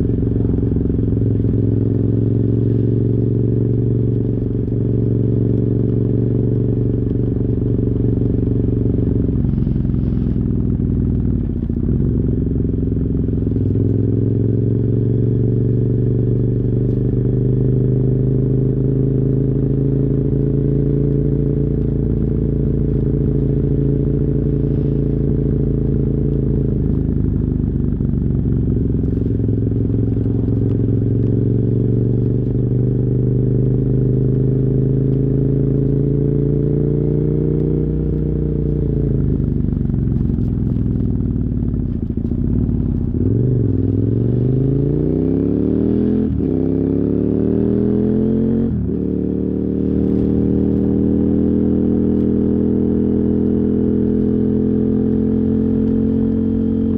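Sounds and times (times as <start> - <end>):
muffled motorcycle engine: 0.0 - 56.9.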